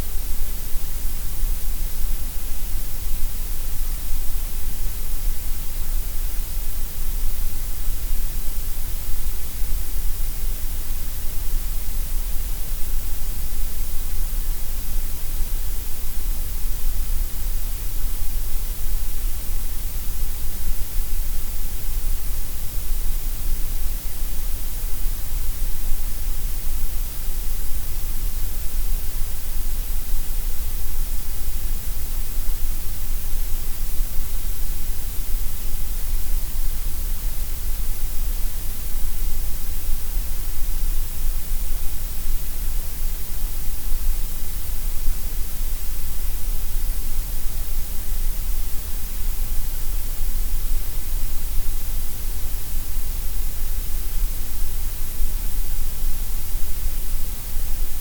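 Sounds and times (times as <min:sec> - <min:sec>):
steady gray noise hiss: 0:00.0 - 0:58.0.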